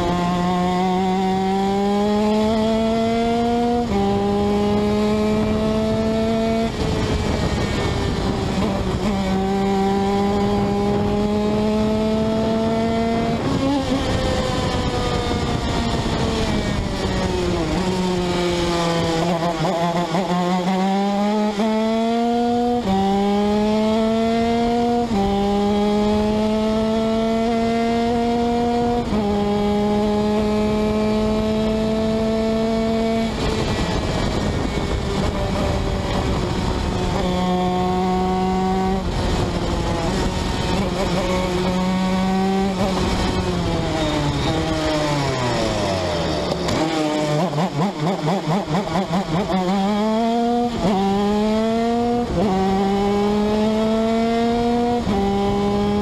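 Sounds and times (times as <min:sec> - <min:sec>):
kart engine at full throttle: 0:00.0 - 0:56.0.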